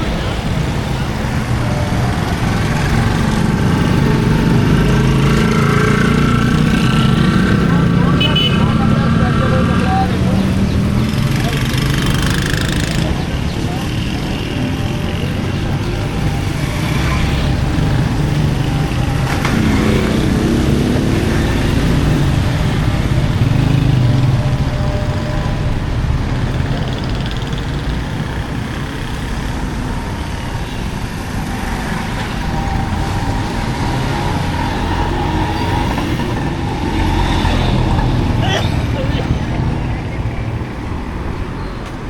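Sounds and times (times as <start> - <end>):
vehicle engines rumbling: 0.0 - 42.0.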